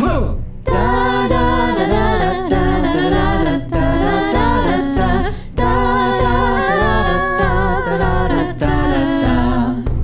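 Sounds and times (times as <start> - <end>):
voices singing in harmony: 0.6 - 10.0.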